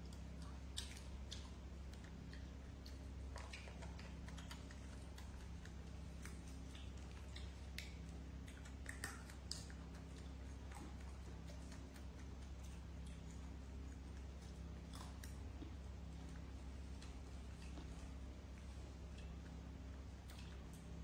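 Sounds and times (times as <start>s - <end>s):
faint clicks and ticks: 0.0s - 21.0s
steady low hum: 0.0s - 21.0s.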